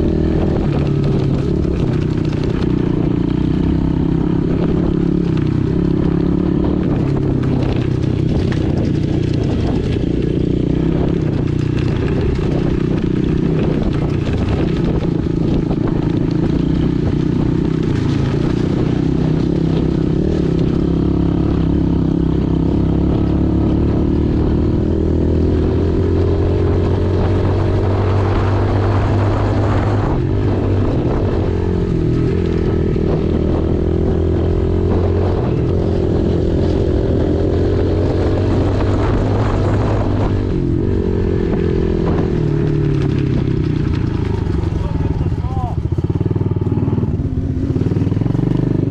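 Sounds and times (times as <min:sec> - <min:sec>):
small motorcycle engine running: 0:00.0 - 0:48.9.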